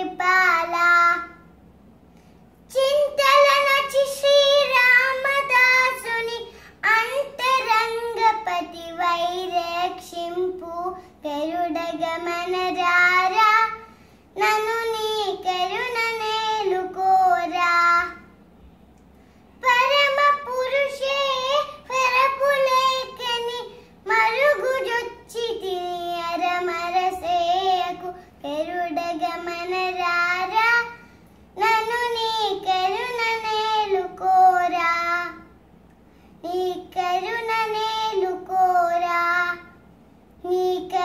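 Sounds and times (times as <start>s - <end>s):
girl singing unaccompanied: 0.0s - 1.6s, 2.6s - 18.4s, 19.6s - 35.6s, 36.4s - 41.0s.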